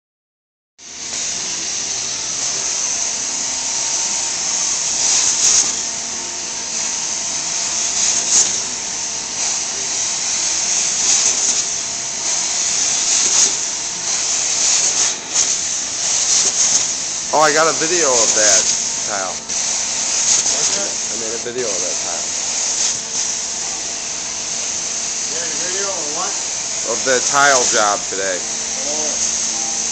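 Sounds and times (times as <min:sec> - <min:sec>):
carpet cleaner vacuum suction hiss: 0:00.8 - 0:29.9.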